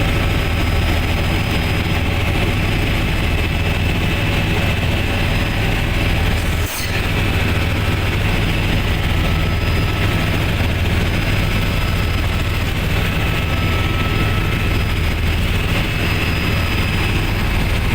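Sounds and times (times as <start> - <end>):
helicopter rotor and engine drone: 0.0 - 17.9
high whine: 0.0 - 17.9.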